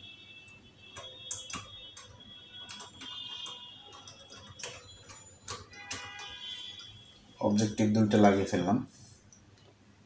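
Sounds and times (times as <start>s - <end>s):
quiet background music: 0.0s - 8.9s.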